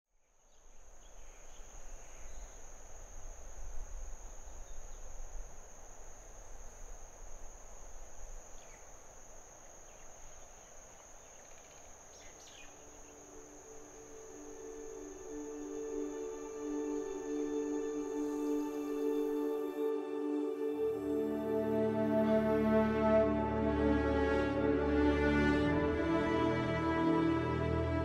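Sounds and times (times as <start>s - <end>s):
insect chorus drone: 0.1s - 28.0s
soft sustained music: 0.3s - 28.0s.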